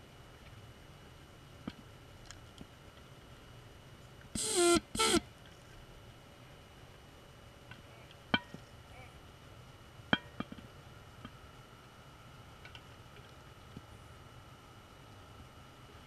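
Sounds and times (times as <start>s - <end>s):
faint steady tone: 0.0s - 16.0s.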